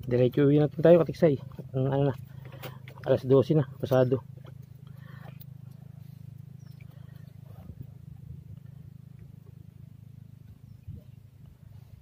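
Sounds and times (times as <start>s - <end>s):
low fluttering rumble: 0.0s - 12.0s
rustles: 0.0s - 12.0s.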